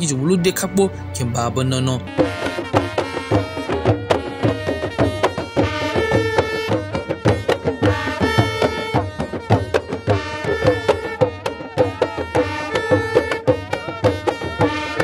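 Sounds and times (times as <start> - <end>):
hand drums playing fast rhythm: 1.9 - 15.0.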